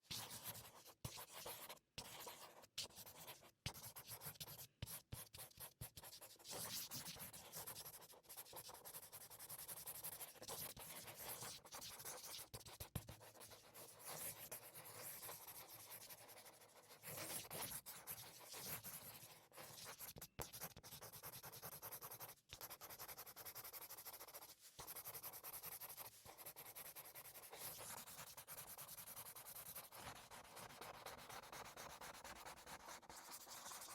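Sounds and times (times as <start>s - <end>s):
marker pen scratching on surface: 0.1s - 33.9s.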